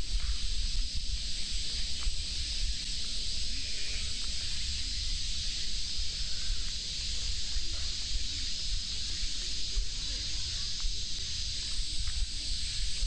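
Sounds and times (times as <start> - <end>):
cicada chorus hissing: 0.0 - 13.0
wind on microphone: 0.0 - 13.0.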